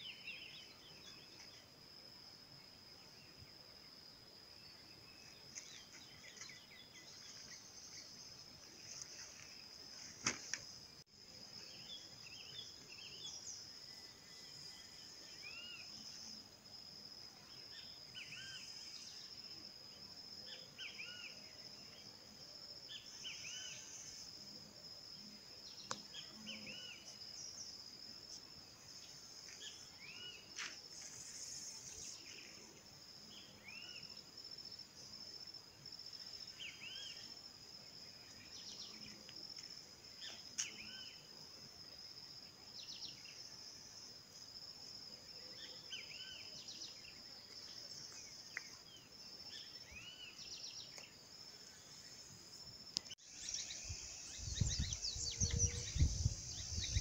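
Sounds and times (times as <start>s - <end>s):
high-pitched insect call: 0.0s - 57.0s.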